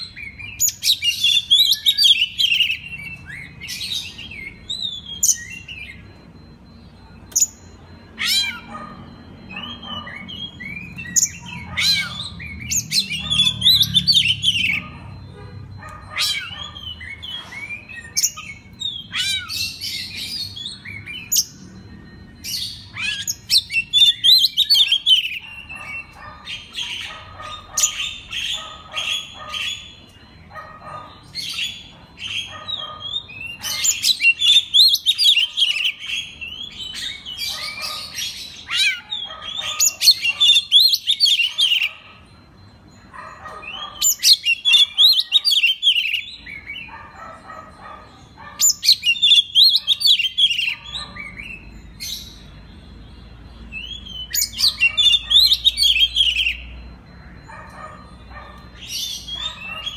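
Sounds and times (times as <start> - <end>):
magpie-robin singing: 0.0 - 59.9.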